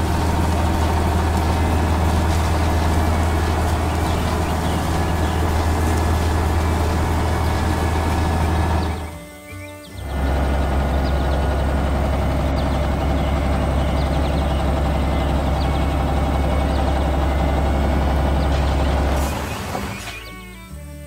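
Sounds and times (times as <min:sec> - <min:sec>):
tractor engine humming: 0:00.0 - 0:21.0.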